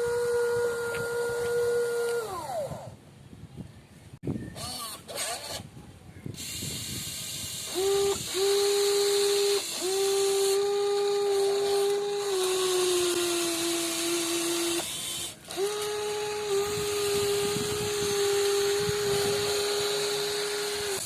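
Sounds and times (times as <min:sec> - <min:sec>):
electric motors whining: 0:00.0 - 0:03.0, 0:04.5 - 0:05.7, 0:06.4 - 0:21.0.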